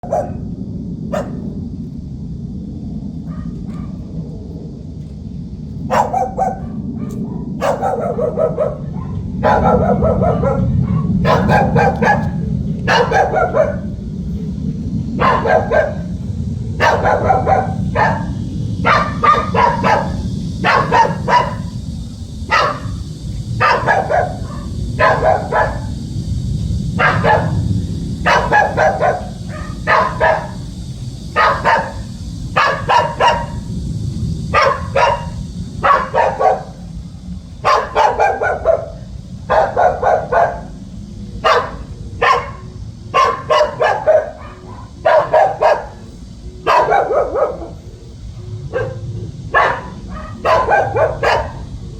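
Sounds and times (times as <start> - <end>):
dog barking: 0.0 - 1.6, 3.2 - 4.1, 5.8 - 14.2, 15.1 - 21.9, 22.5 - 26.0, 26.9 - 33.7, 34.5 - 37.0, 37.6 - 47.9, 48.5 - 51.8.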